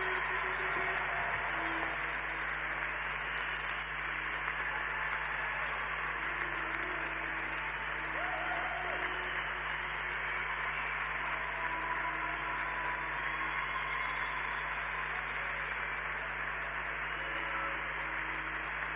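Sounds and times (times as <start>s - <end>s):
large audience applauding: 0.0s - 18.9s.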